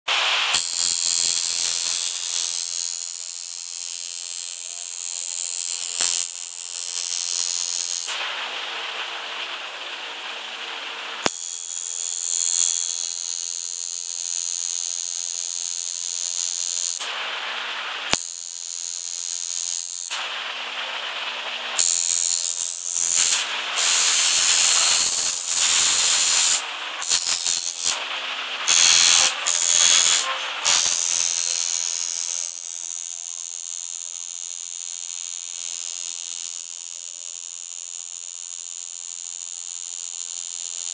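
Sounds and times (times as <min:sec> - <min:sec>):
tattoo machine buzzing: 0:00.4 - 0:08.2, 0:11.2 - 0:17.1, 0:18.1 - 0:20.2, 0:21.8 - 0:28.0, 0:28.6 - 0:40.9.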